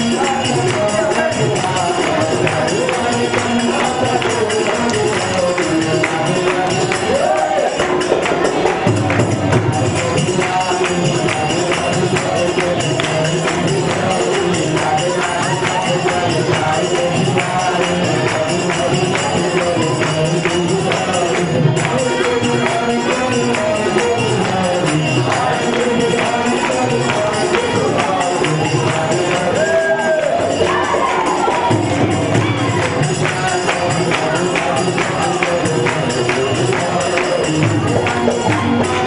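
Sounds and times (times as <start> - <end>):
devotional music: 0.0 - 39.0
melodic voices singing: 0.0 - 39.0
people clapping in time: 0.0 - 39.0.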